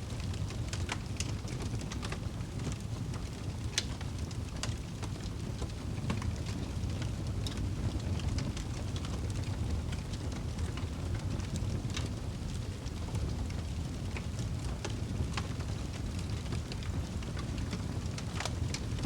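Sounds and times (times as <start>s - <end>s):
fire crackling and popping: 0.1s - 19.0s
fire flames rushing: 0.1s - 19.0s.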